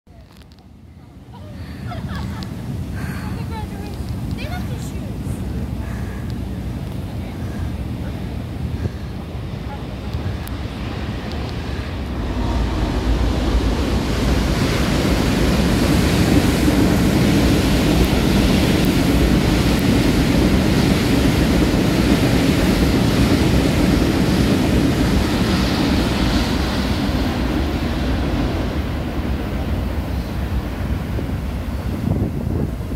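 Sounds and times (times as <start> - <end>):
train wheels rumbling on rails: 0.2 - 32.9.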